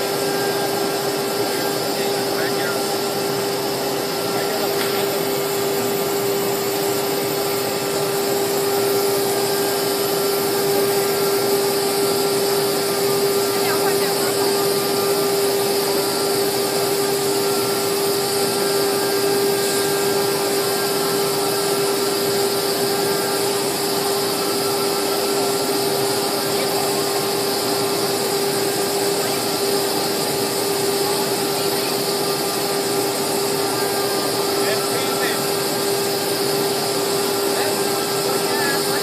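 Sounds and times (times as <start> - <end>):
router spindle whine: 0.0 - 39.0.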